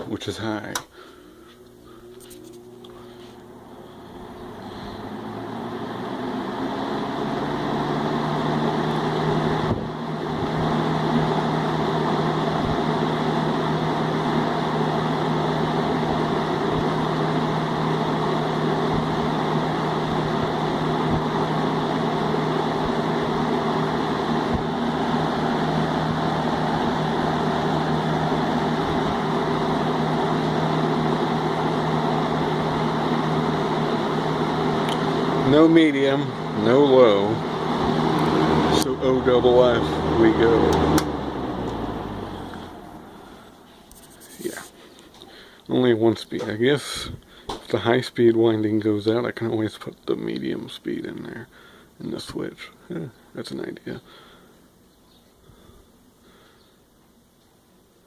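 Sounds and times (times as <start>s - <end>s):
box fan running: 0.0s - 58.0s.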